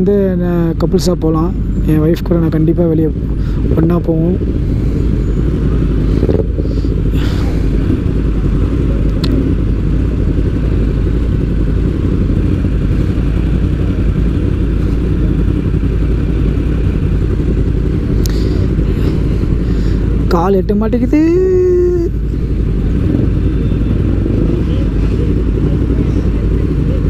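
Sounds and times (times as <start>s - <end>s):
motorcycle engine rumble: 0.0s - 27.0s.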